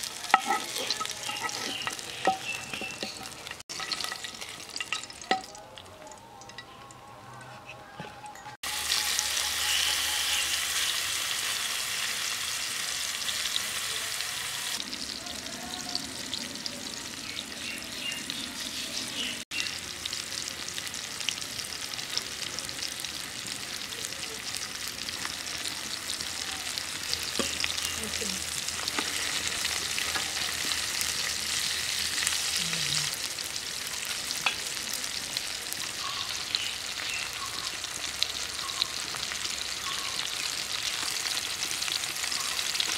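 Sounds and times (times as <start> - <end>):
fish sizzling in hot oil: 0.0 - 5.9, 8.6 - 42.9.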